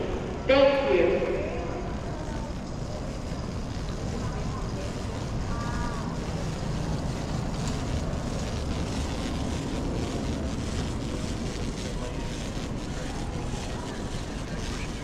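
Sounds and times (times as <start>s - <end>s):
rumbling hall background noise: 0.0s - 15.0s.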